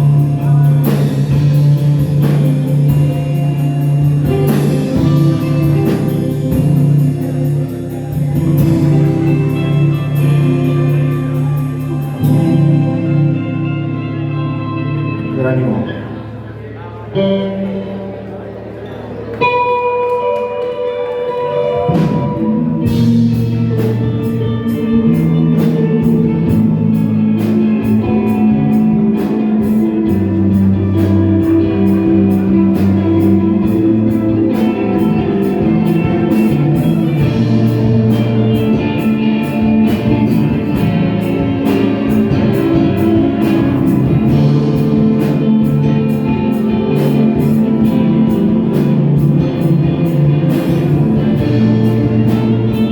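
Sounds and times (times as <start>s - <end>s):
drums with cymbal beat: 0.0s - 13.2s, 21.8s - 52.9s
bass guitar: 0.0s - 52.9s
electric guitar: 0.0s - 52.9s.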